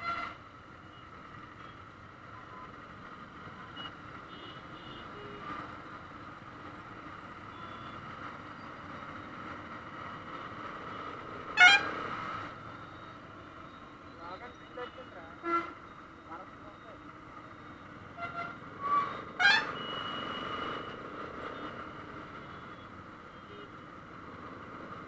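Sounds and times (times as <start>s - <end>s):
dense city traffic: 0.0s - 25.0s.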